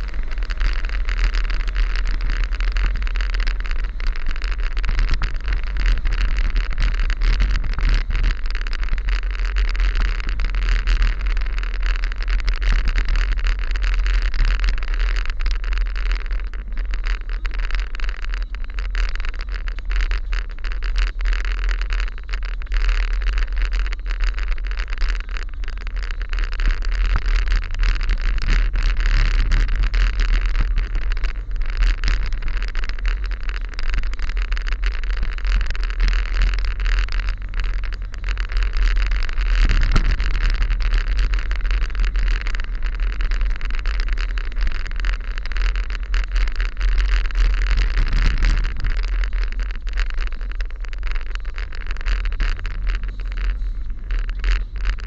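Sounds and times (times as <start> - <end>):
car driving at low speed: 0.0 - 55.0
road noise hiss: 0.0 - 55.0.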